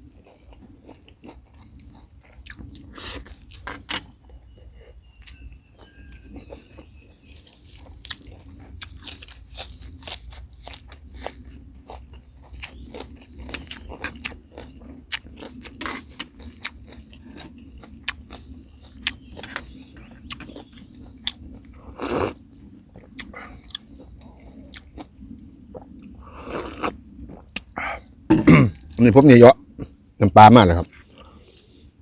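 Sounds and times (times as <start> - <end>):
chewing and crunching food: 0.0 - 29.0
crickets trilling: 0.0 - 32.0.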